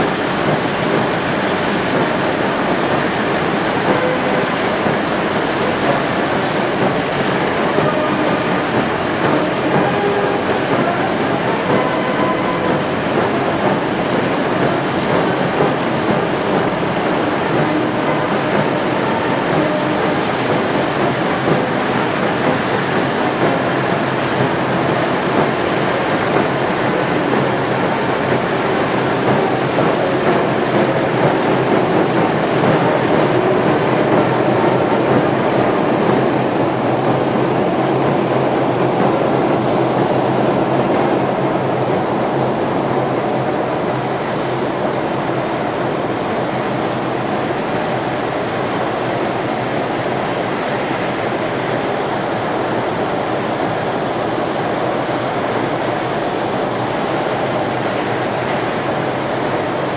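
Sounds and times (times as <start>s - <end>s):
steel tracks running: 0.0s - 59.9s.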